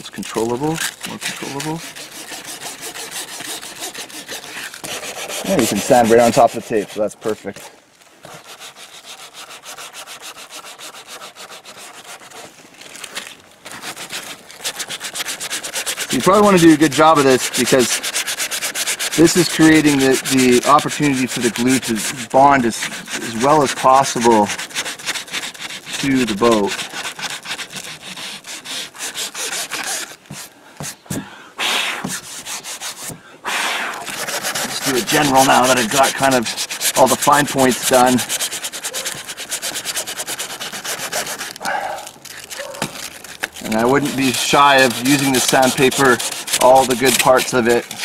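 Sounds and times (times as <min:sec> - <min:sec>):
sandpaper rubbing fabric: 0:00.0 - 0:48.0.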